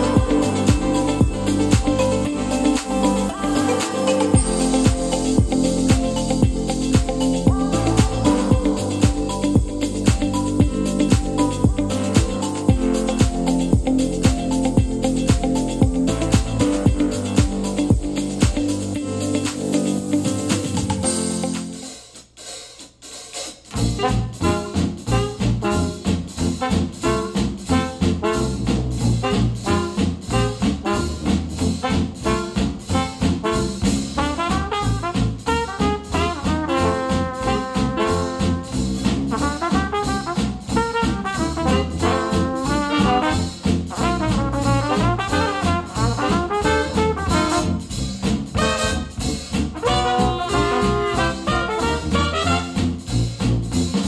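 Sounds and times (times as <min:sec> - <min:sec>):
jazz music through speakers: 0:00.0 - 0:54.0.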